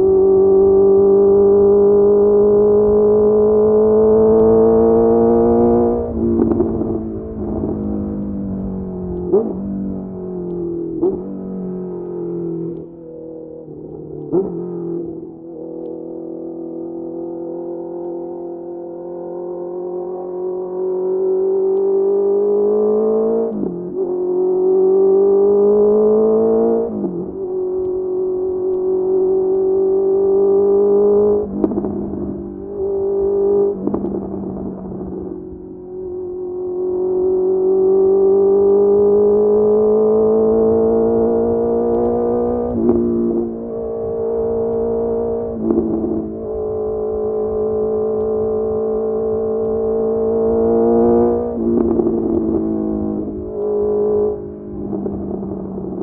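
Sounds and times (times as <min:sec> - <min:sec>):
motorcycle engine revving: 0:00.0 - 0:56.0
throttle blips on downshifts: 0:00.0 - 0:56.0.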